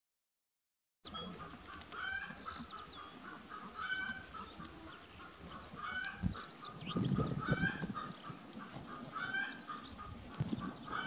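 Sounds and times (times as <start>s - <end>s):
poultry calling: 1.1s - 11.0s.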